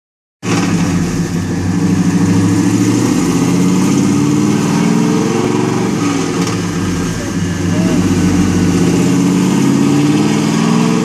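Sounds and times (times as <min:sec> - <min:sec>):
car engine exhaust roaring: 0:00.4 - 0:11.0.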